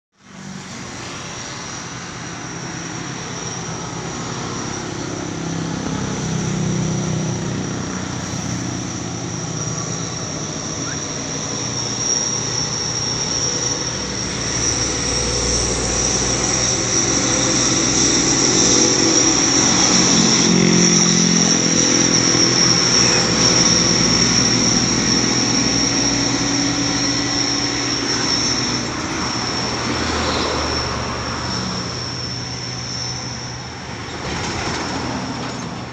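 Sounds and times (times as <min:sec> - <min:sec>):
high-pitched whine: 0:00.2 - 0:35.9
truck diesel engine labouring: 0:00.2 - 0:35.9.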